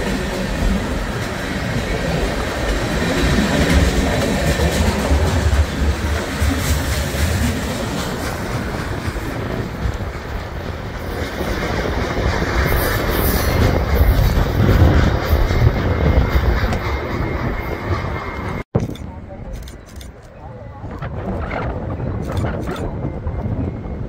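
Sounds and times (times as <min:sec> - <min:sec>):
train wheels clattering on rails: 0:00.0 - 0:24.0.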